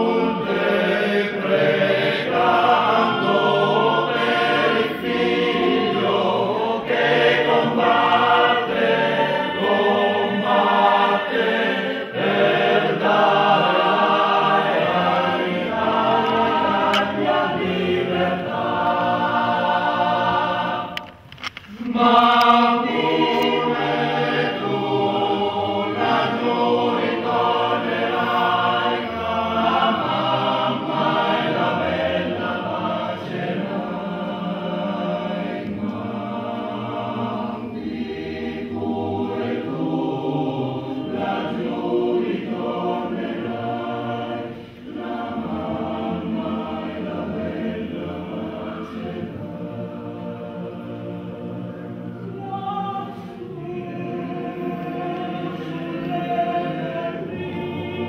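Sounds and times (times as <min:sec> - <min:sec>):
men's choir singing in harmony: 0:00.0 - 0:58.0.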